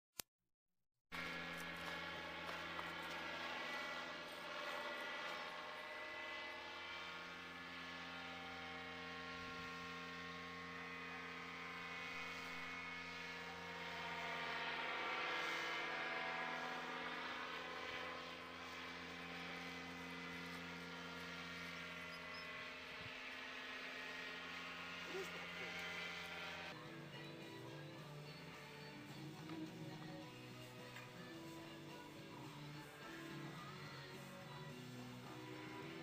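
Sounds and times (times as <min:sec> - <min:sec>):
paramotor engine droning: 0:01.2 - 0:36.0.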